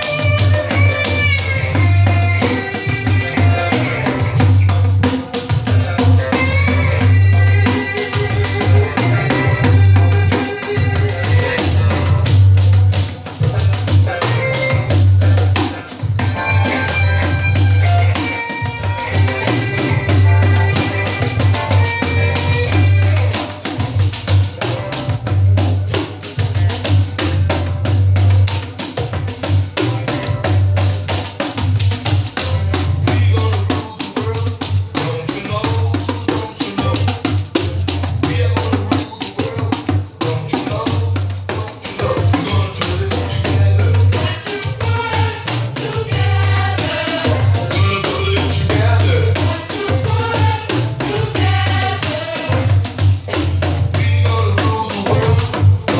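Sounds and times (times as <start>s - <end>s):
recorded music: 0.0s - 55.9s.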